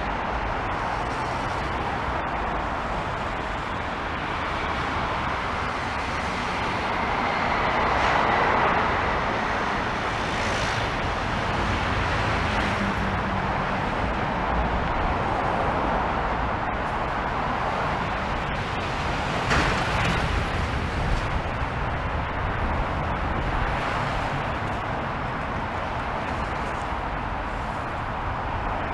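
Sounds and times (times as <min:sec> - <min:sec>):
road traffic noise: 0:00.0 - 0:28.9.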